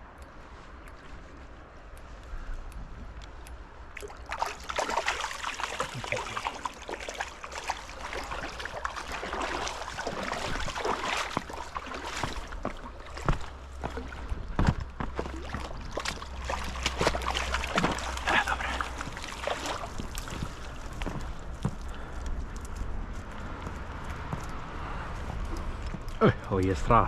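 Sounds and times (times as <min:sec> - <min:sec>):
river water splashing: 0:03.0 - 0:27.0.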